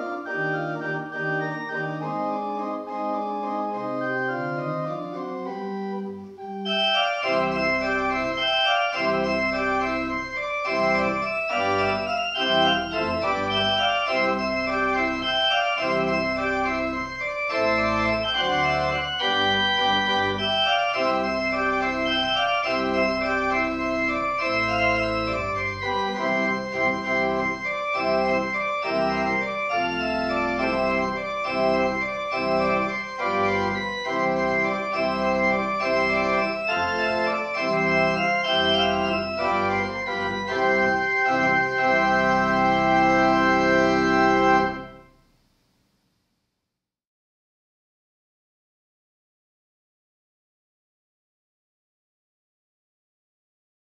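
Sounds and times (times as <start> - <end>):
pipe organ playing chords: 0.0 - 45.2.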